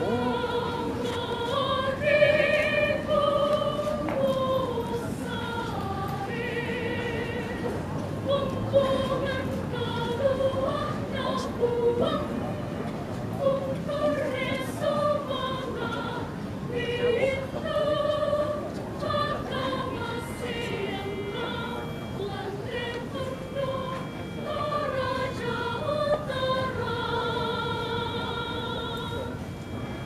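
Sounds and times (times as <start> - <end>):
choir singing in parts: 0.0 - 30.0.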